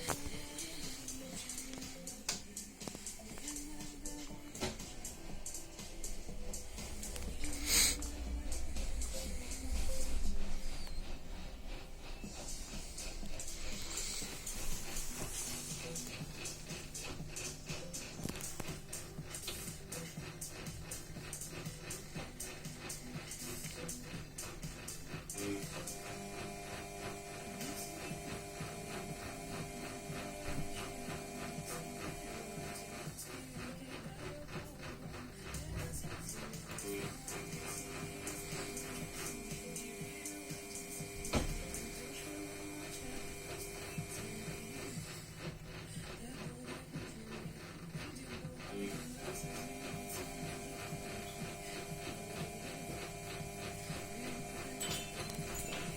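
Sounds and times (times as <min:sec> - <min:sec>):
rapid regular ticking: 0:00.0 - 0:26.5, 0:31.6 - 0:54.4
washing machine motor hum: 0:00.0 - 0:55.9
washing machine whine: 0:00.0 - 0:55.9.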